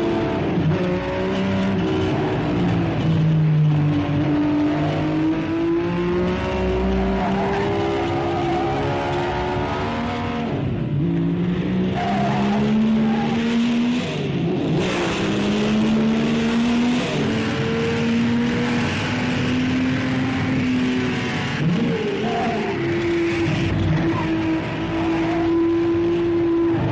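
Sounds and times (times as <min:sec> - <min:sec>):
racing car engine accelerating: 0:00.0 - 0:26.9.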